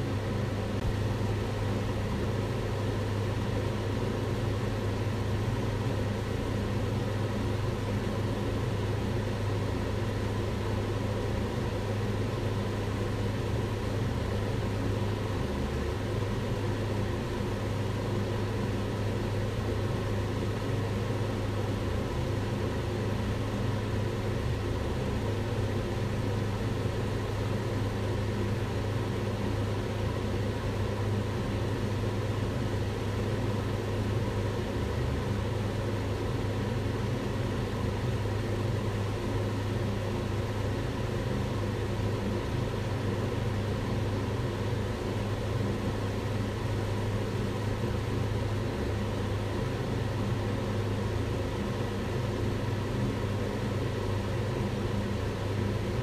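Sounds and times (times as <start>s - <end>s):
extractor hood fan humming: 0.0s - 56.0s.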